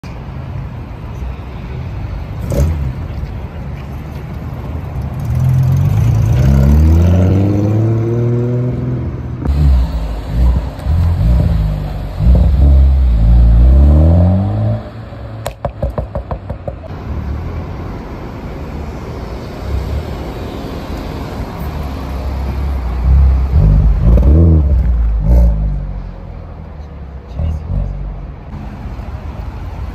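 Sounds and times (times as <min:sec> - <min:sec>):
sports car engines revving: 0:02.3 - 0:03.4, 0:05.0 - 0:19.0, 0:19.7 - 0:28.8.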